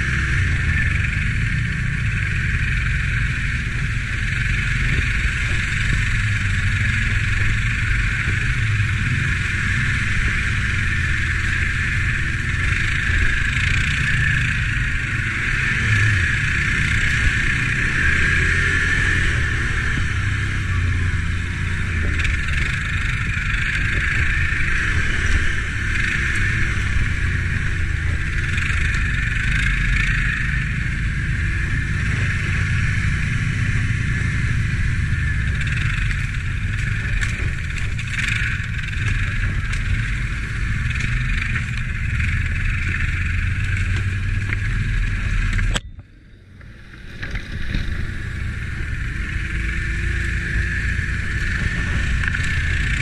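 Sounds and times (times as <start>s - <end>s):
atv engine running: 0.0s - 53.0s.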